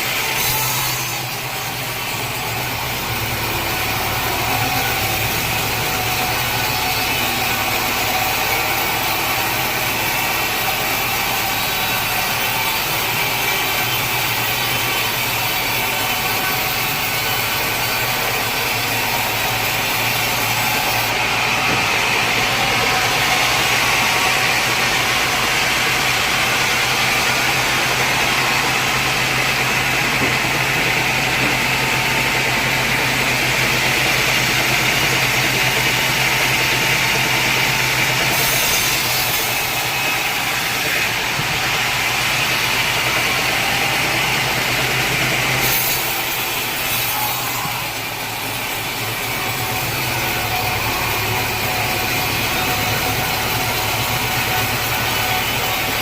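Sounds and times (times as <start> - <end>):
saw hissing: 0.0 - 56.0.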